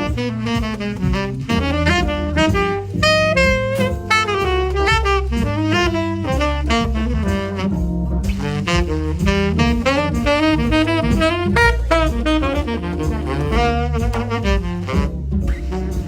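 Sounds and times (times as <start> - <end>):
bass and drums accompaniment: 0.0 - 16.0
tenor saxophone improvising: 0.0 - 16.0.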